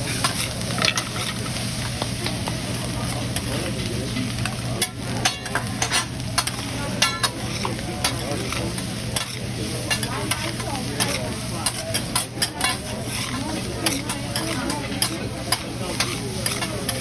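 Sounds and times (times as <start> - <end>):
food sizzling on a griddle: 0.0 - 17.0
metal spatulas clicking and scraping: 0.1 - 1.4, 3.3 - 17.0.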